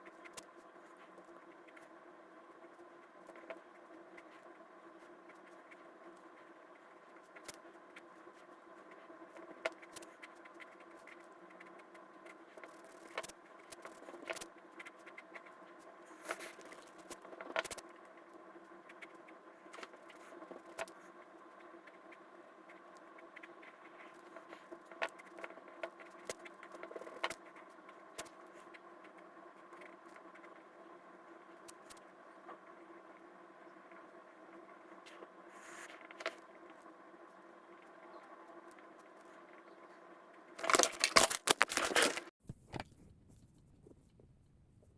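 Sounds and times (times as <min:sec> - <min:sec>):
faint hum with held tones: 0:00.0 - 0:44.9.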